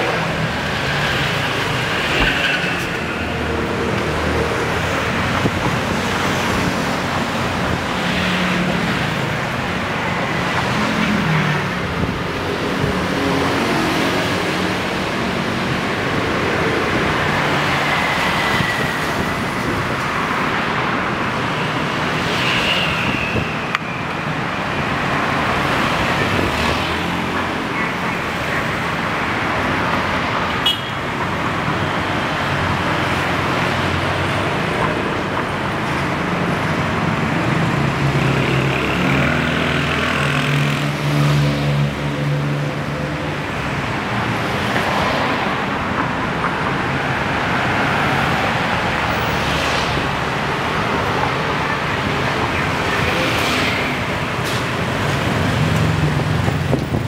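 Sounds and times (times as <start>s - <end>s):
cars and motorbikes passing: 0.0s - 57.0s.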